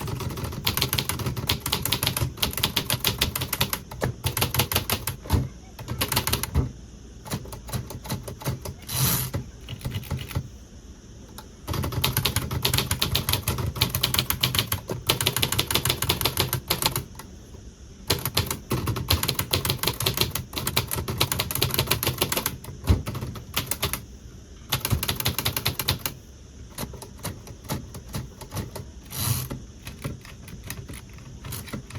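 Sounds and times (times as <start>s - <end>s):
typewriter key strikes: 0.0s - 6.7s, 7.3s - 10.4s, 11.7s - 17.1s, 18.1s - 24.0s, 24.7s - 26.2s, 26.8s - 31.9s.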